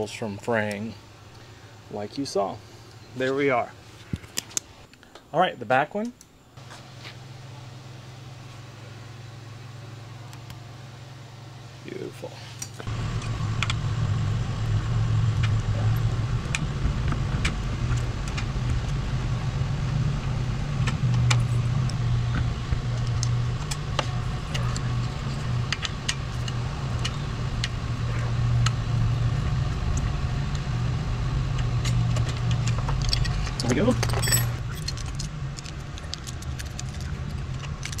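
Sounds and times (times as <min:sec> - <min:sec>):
low machine hum: 0:00.0 - 0:04.2, 0:05.5 - 0:38.0.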